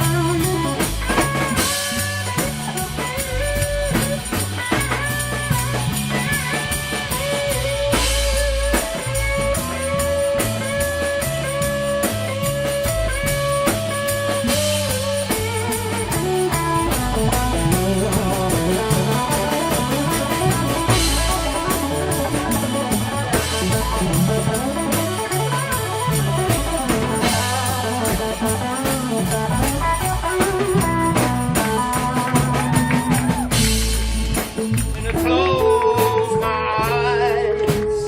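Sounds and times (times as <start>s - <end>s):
bass guitar: 0.0s - 38.0s
drum kit beat: 0.0s - 38.0s
lead electric guitar: 0.0s - 38.0s.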